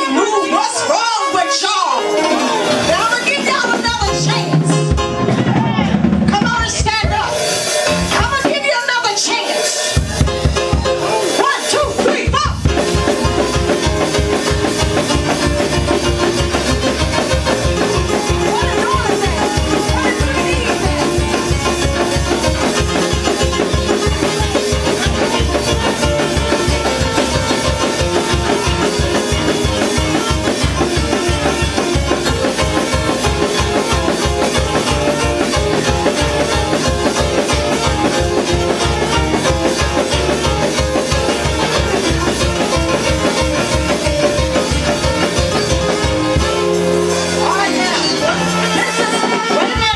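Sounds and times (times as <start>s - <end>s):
up-tempo praise music: 0.0s - 49.9s
fast steady drumbeat: 2.6s - 49.9s.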